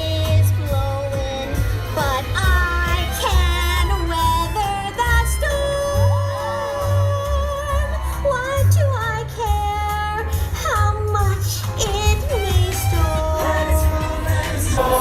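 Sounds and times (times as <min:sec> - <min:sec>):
bass notes: 0:00.0 - 0:15.0
high singing voice: 0:00.0 - 0:15.0.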